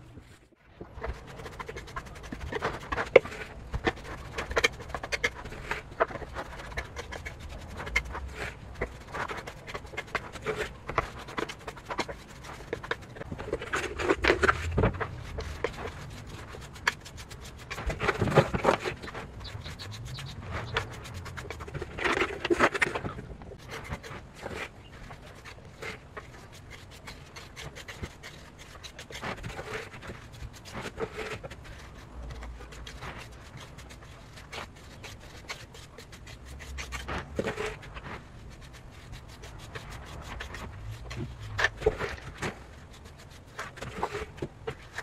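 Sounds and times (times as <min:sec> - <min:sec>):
trowel scraping wet cement: 0:00.9 - 0:45.0.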